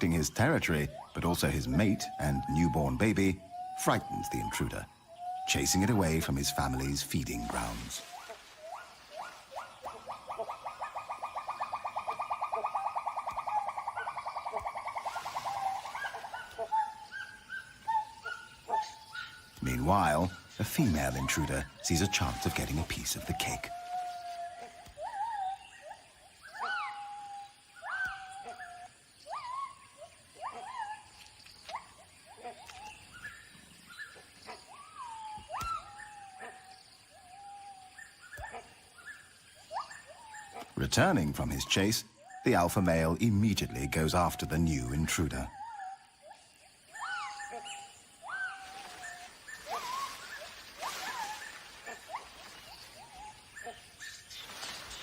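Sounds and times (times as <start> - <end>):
animal calls: 0.0 - 55.0.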